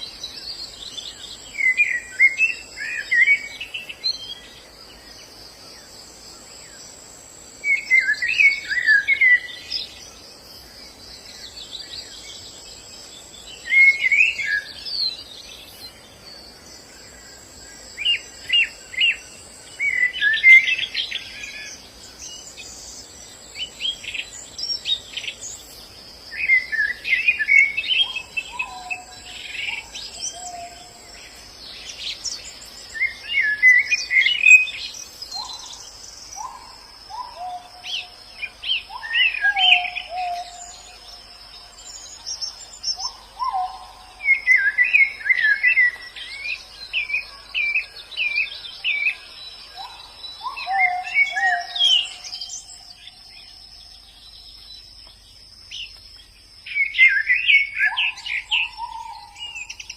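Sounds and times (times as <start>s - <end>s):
birds twittering: 0.0s - 59.9s.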